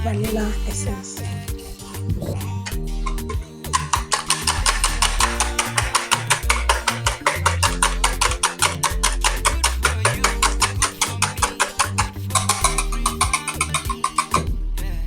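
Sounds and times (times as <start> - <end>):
music with fast percussion beat: 0.2 - 15.0.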